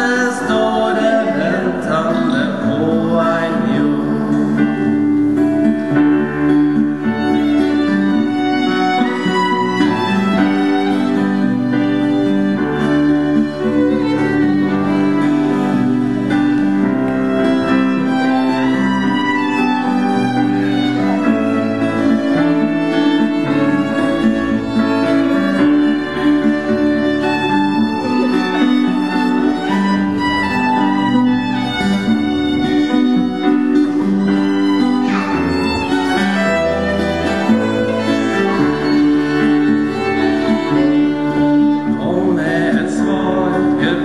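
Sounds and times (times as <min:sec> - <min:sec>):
acoustic guitar: 0:00.0 - 0:44.0
keyboard accompaniment: 0:00.0 - 0:44.0
violin playing a melody: 0:00.0 - 0:44.0.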